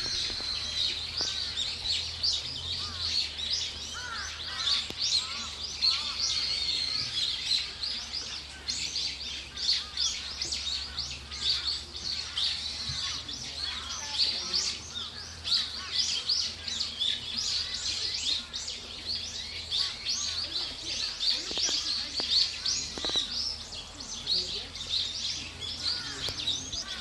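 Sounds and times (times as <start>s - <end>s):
small birds chirping and twittering: 0.0s - 27.0s.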